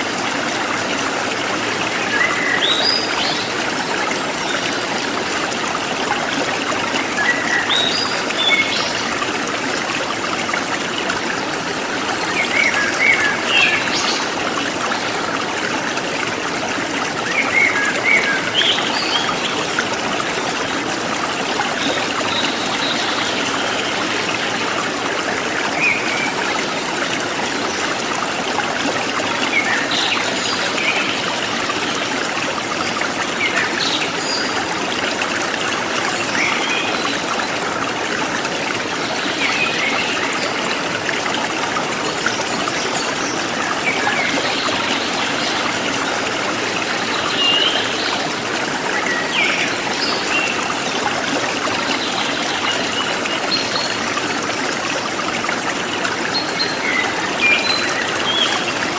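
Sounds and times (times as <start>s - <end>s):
stream trickling over stones: 0.0s - 58.9s.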